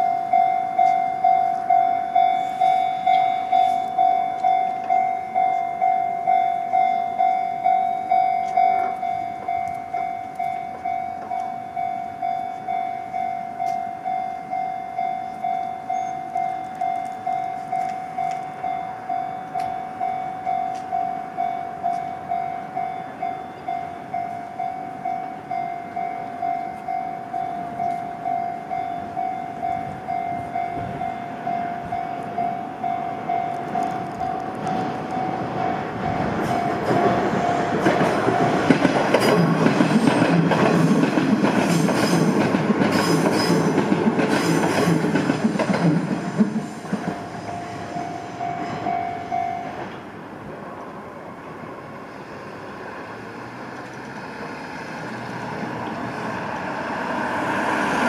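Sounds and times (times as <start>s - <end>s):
level-crossing warning bell: 0.0s - 50.4s.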